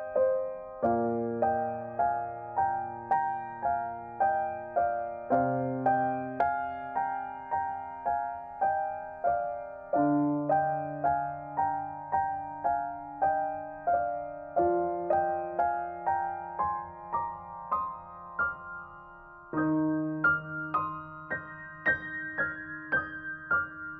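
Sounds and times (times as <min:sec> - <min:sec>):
gentle piano music: 0:00.0 - 0:23.9.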